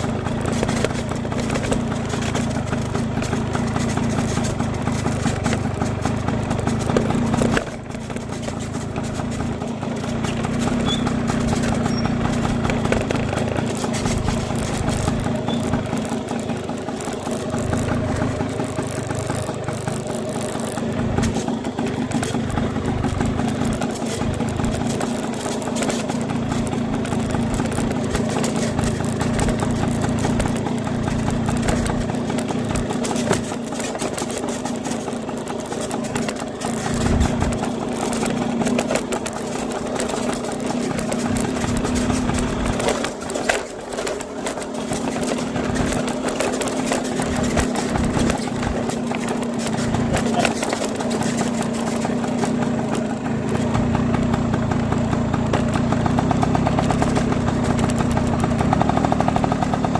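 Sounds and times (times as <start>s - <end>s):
small engine humming: 0.0s - 59.9s.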